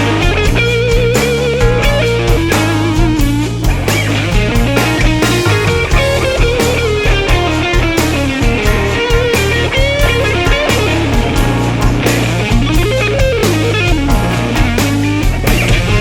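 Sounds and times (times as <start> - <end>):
bass guitar: 0.0 - 16.0
lead electric guitar solo: 0.0 - 16.0
steady drum beat: 0.0 - 16.0.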